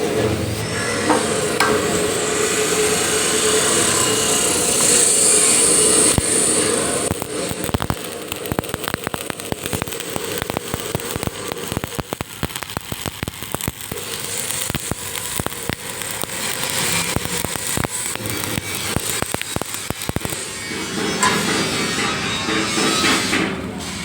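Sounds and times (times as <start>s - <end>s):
welding arc crackling: 0.0s - 22.7s.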